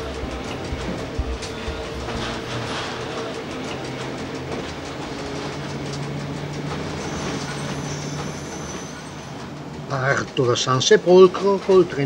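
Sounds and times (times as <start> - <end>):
railcar motor hum: 0.0 - 12.0.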